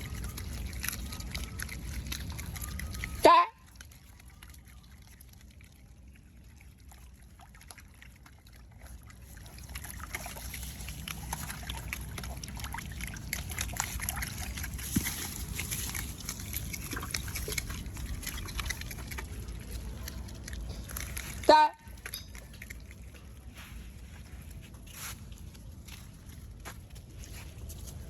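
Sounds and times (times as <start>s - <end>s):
water trickling and sloshing: 0.0s - 28.0s.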